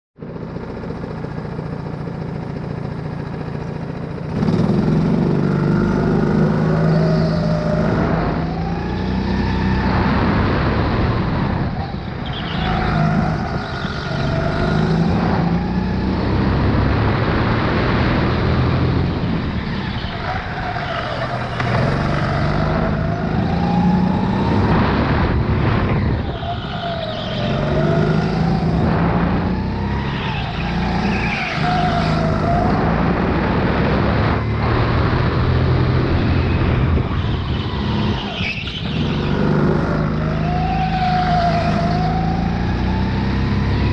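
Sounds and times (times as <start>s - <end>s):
go-kart engine revving: 0.4s - 43.9s.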